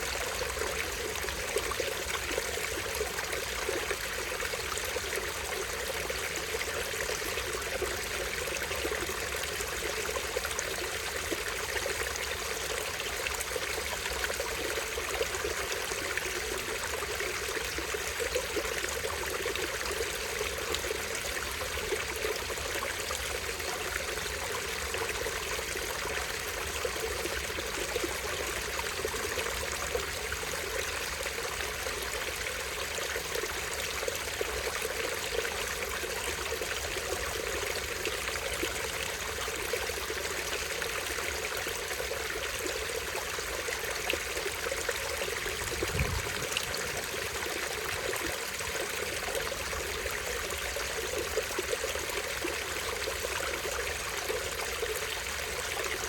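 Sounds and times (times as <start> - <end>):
stream over small waterfall: 0.0 - 56.0.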